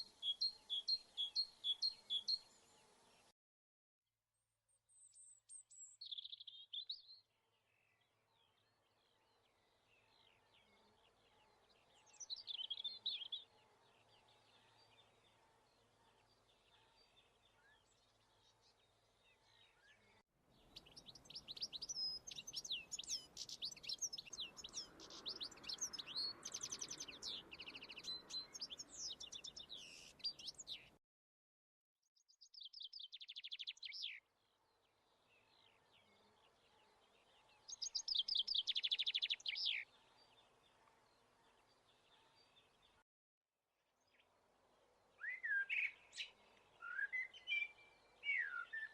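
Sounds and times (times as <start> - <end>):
songbirds singing and twittering: 0.0 - 3.3, 4.9 - 31.0, 32.1 - 43.0, 44.0 - 48.9.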